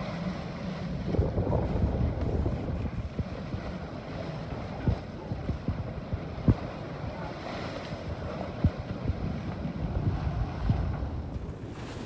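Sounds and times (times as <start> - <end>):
water rushing along hull: 0.0 - 12.0
wind on microphone: 0.0 - 12.0.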